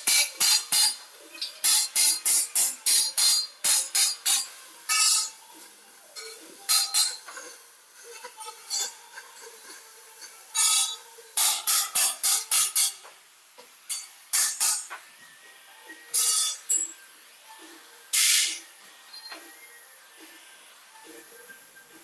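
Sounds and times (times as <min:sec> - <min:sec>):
gas cutting torch hissing blasts: 0:00.0 - 0:22.0.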